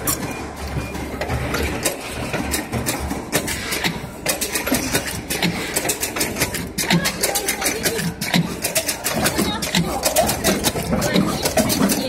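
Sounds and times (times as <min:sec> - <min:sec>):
machine clicks and knocks: 0:00.0 - 0:12.0.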